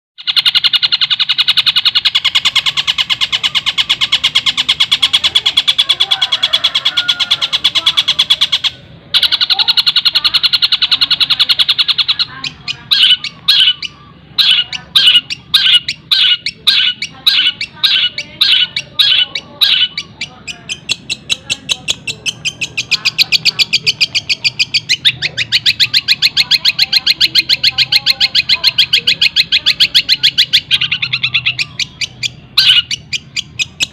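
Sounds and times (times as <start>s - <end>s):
bird singing fast trill: 0.2s - 33.9s.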